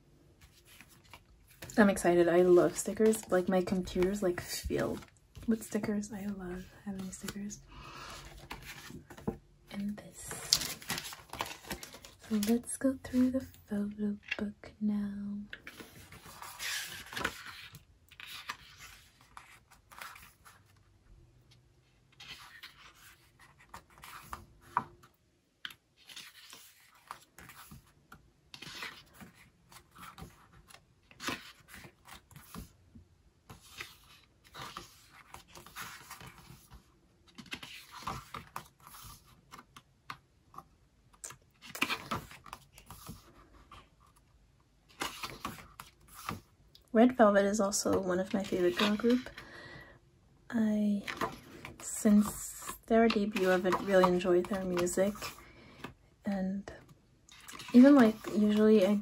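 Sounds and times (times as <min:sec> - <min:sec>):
book pages turning: 0:00.4 - 0:13.4, 0:15.5 - 0:20.9, 0:22.1 - 0:32.8, 0:33.4 - 0:44.3, 0:44.9 - 0:46.5, 0:47.8 - 0:49.4, 0:51.0 - 0:55.9, 0:57.3 - 0:59.0.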